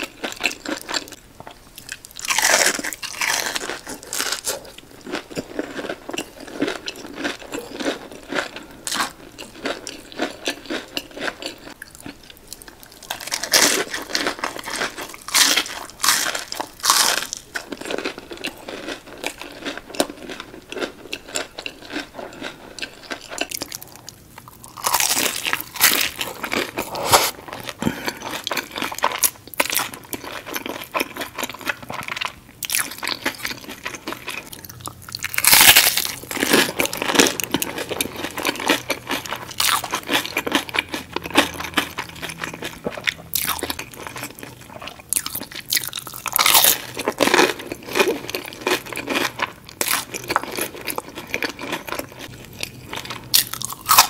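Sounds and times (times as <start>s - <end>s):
chewing crispy fried fish: 0.0s - 54.0s.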